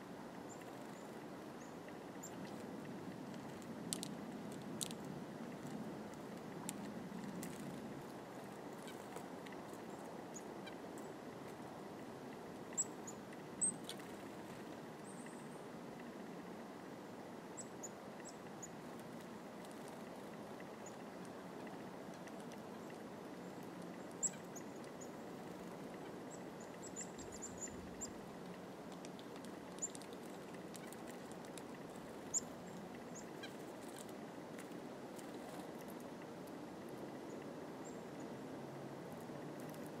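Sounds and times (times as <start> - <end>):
songbirds chip notes: 0.0 - 38.5.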